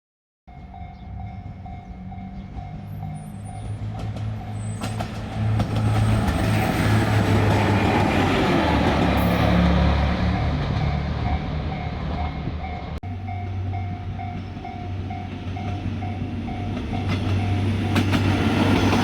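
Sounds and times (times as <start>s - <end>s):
diesel railcar engines droning: 0.5s - 19.0s.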